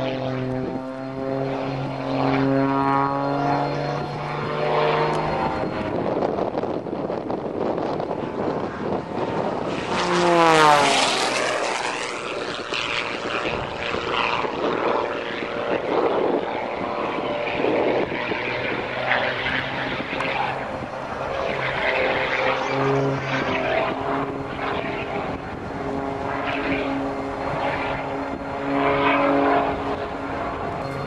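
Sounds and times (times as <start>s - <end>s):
propeller airplane flying past: 0.0s - 31.0s.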